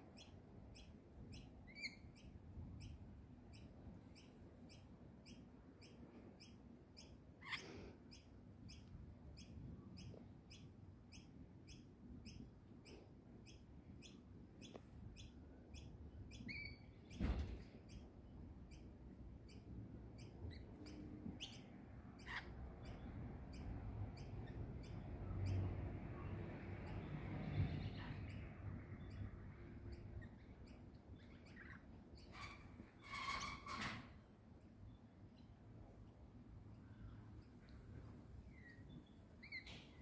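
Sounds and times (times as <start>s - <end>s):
small bird chirping: 0.0s - 40.0s.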